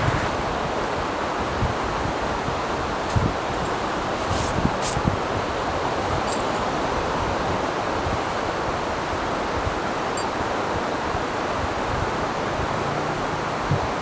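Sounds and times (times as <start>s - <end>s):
high surf: 0.0s - 14.0s
strong wind: 0.0s - 14.0s.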